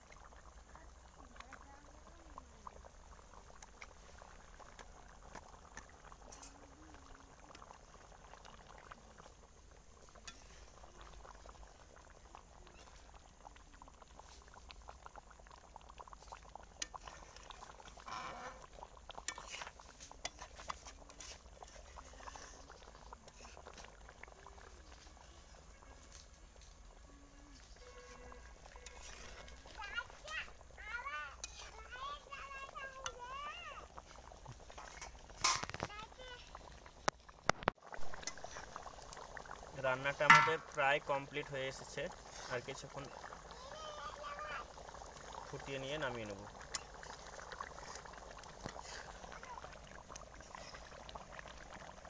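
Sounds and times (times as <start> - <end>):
curry bubbling in a pan: 0.0 - 52.0.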